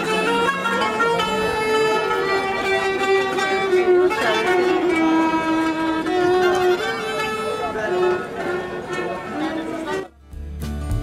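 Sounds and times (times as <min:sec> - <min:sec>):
kanun playing: 0:00.0 - 0:11.0.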